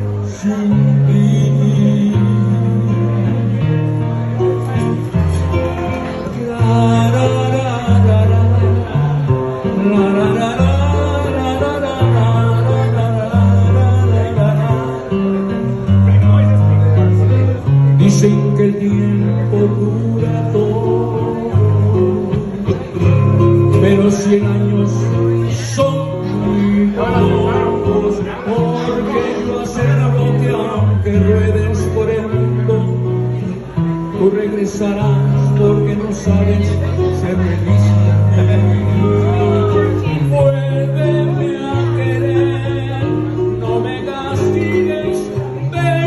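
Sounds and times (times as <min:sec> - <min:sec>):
acoustic guitar ballad: 0:00.0 - 0:46.0
held bass notes: 0:00.0 - 0:46.0
man singing into a microphone: 0:00.0 - 0:46.0.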